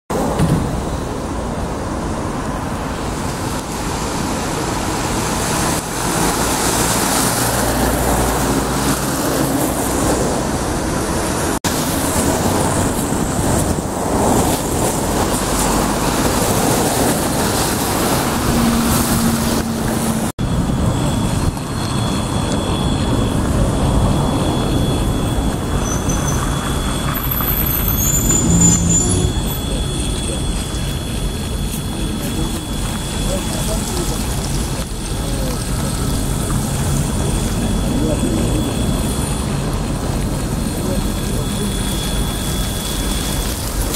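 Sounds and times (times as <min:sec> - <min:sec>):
buses running: 0:00.1 - 0:43.9
road traffic noise: 0:00.1 - 0:43.9.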